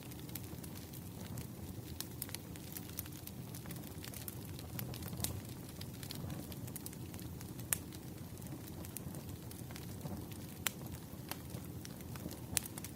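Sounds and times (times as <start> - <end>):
campfire flame rumble: 0.0 - 12.9
wood crackling and popping: 0.0 - 12.9.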